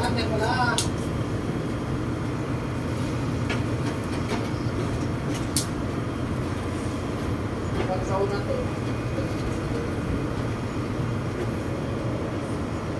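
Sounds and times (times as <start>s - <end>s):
low rumble of ship: 0.0s - 12.9s.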